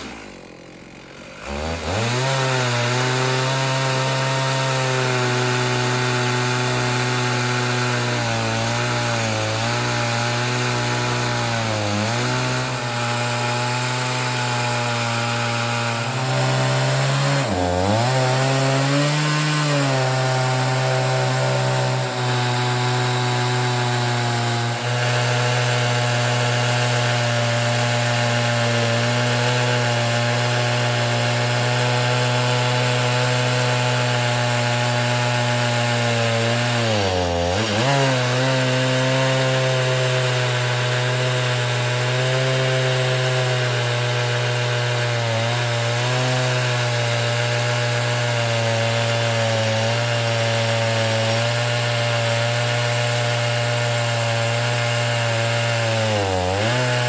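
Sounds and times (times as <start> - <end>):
chain rasping through wood: 0.0 - 57.0
chainsaw engine at high revs: 0.0 - 57.0.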